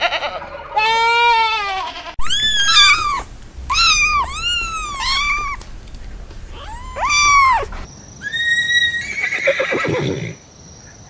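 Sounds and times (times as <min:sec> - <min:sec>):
animal high arching cry: 0:00.0 - 0:05.6, 0:06.5 - 0:10.4.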